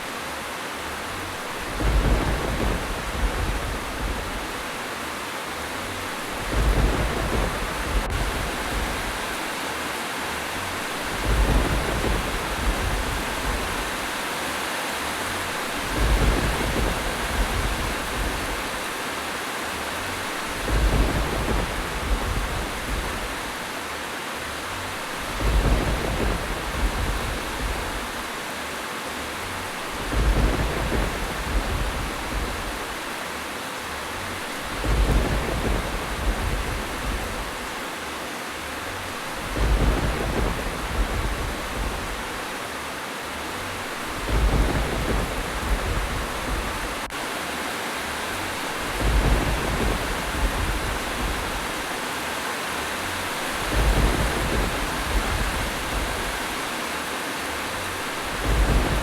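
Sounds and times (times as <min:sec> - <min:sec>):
heavy rainfall: 0:00.0 - 0:59.0
low thunder rumble: 0:01.2 - 0:09.6, 0:10.3 - 0:14.3, 0:15.1 - 0:19.0, 0:19.7 - 0:23.8, 0:24.6 - 0:28.5, 0:29.3 - 0:33.2, 0:34.0 - 0:38.0, 0:38.6 - 0:42.7, 0:43.3 - 0:47.3, 0:48.3 - 0:52.1, 0:52.9 - 0:56.8, 0:57.6 - 0:59.0.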